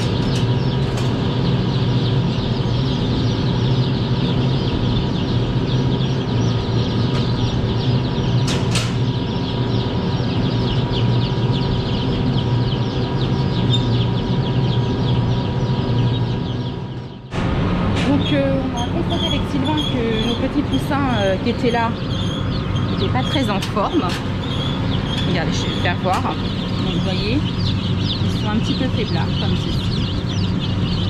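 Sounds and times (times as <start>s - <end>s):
chicks peeping: 0.0s - 31.0s
low machine hum: 0.0s - 31.0s.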